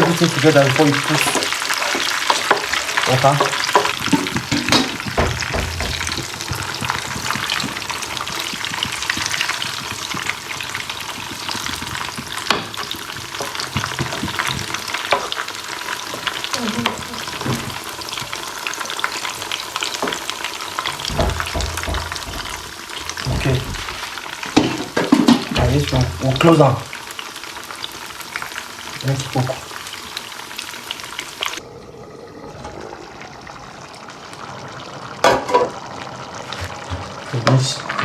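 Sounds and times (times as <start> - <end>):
beans sizzling in a pan: 0.0 - 31.6, 33.8 - 38.0.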